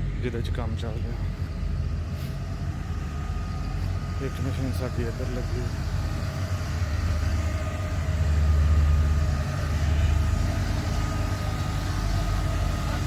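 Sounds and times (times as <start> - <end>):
machine engine low drone: 0.0 - 13.0.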